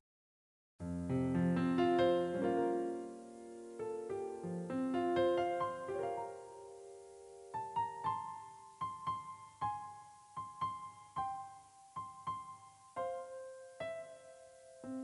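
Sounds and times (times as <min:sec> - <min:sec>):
slow gentle piano melody: 0:00.8 - 0:15.0.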